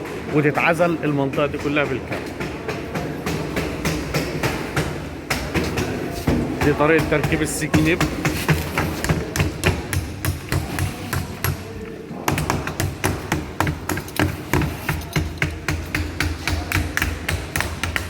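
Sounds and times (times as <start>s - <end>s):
hammer tapping on sheet metal: 1.3s - 18.0s.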